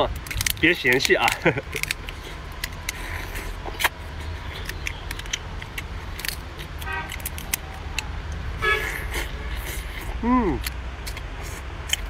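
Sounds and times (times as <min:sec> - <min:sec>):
shell cracking and clicking: 0:00.1 - 0:08.5, 0:10.6 - 0:12.0
chewing: 0:00.2 - 0:12.0.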